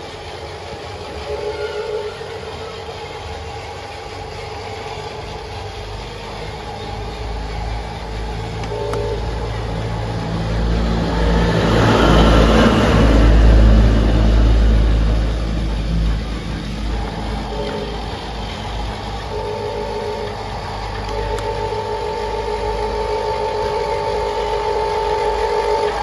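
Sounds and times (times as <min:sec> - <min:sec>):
low engine rumble: 0:00.0 - 0:26.0
rush of noise: 0:00.0 - 0:26.0.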